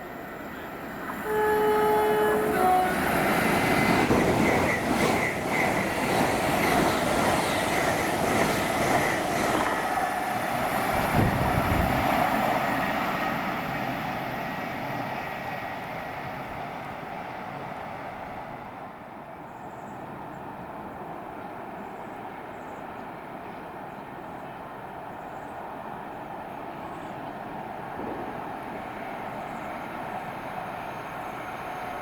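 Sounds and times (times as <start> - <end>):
train running past: 0.0 - 32.0.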